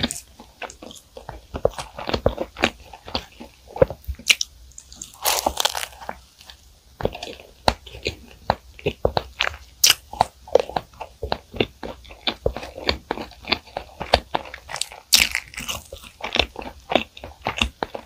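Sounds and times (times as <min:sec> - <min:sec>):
chewing crunchy pastry: 0:00.0 - 0:18.0.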